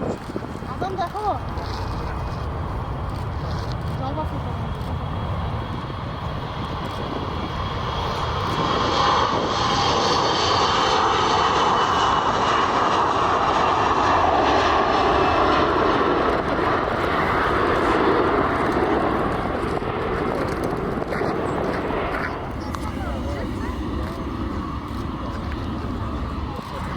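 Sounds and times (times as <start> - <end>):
airliner engines roaring: 0.0 - 26.9.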